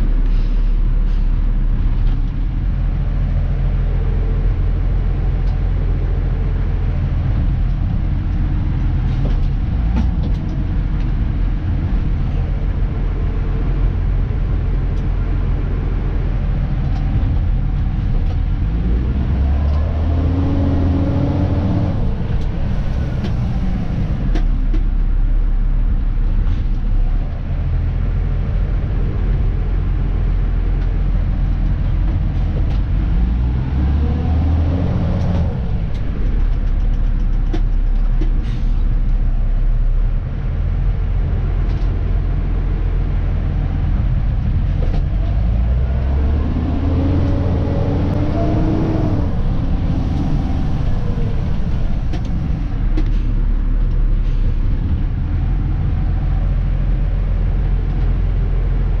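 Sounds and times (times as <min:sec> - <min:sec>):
diesel truck engine running and revving: 0:00.0 - 0:59.0.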